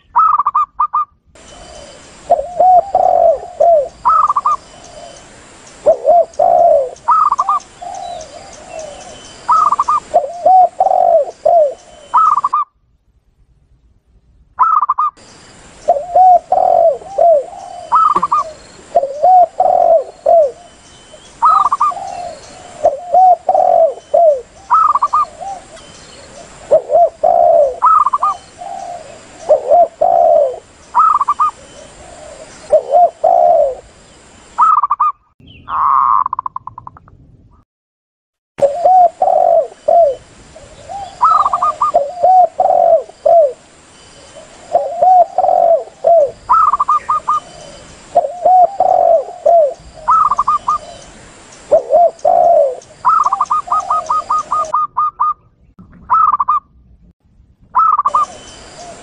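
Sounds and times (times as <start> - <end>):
doves cooing: 0.0 - 12.6, 15.8 - 33.9, 38.6 - 43.7, 44.3 - 56.6, 57.8 - 59.0.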